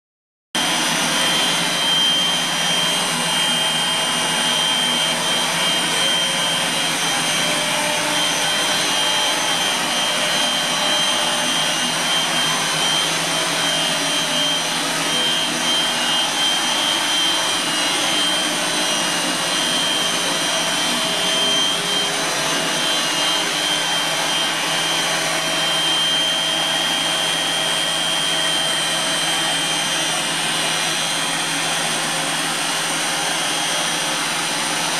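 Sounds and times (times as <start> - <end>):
separator machine whining: 0.6 - 34.9.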